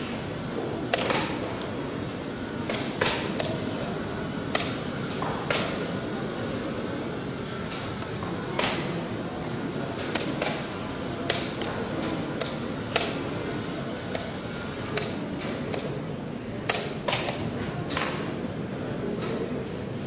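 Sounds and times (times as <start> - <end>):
room noise: 0.0 - 20.0.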